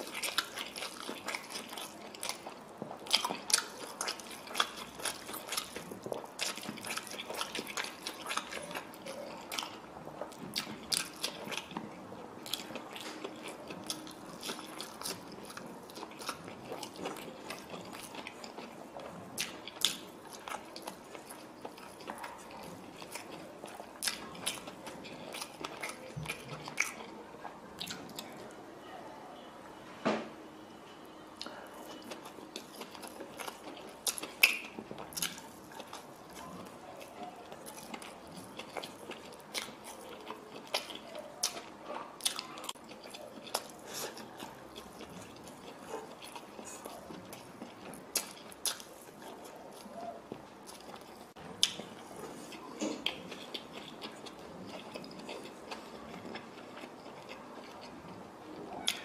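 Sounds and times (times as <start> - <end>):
person chewing with mouth smacks: 0.0 - 28.5, 31.4 - 59.0.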